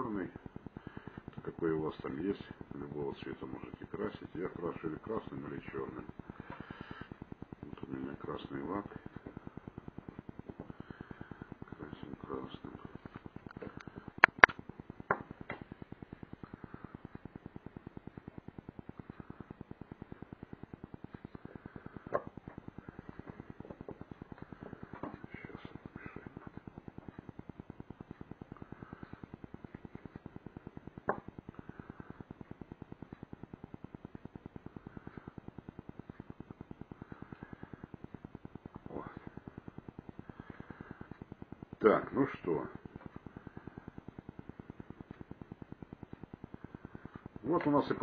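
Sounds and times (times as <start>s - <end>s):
faint fast ticking: 0.0s - 48.0s
faint steady pulsing: 0.0s - 48.0s.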